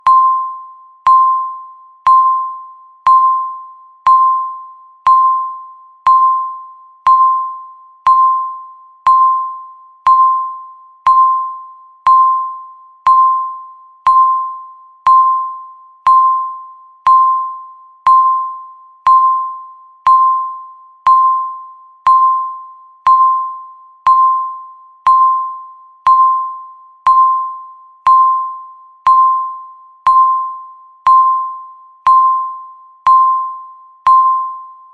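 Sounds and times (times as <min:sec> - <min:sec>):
countdown timer beeping: 0:00.0 - 0:34.9.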